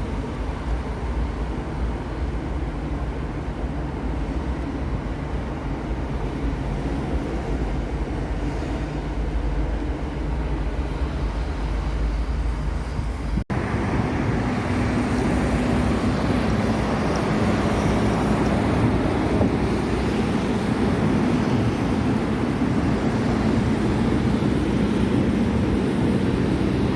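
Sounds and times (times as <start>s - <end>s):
highway traffic rumble: 0.0s - 26.9s
wind-blown outdoor noise: 0.0s - 26.9s.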